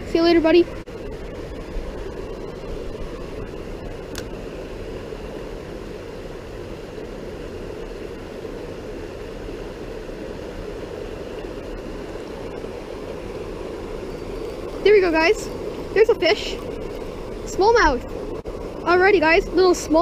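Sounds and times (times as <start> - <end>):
flowing creek water: 0.0 - 20.0.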